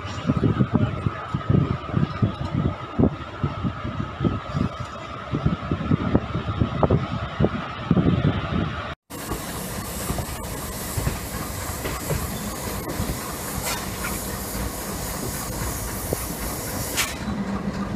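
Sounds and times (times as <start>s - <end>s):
train running: 0.0s - 17.9s
wheels on rails: 0.0s - 17.9s.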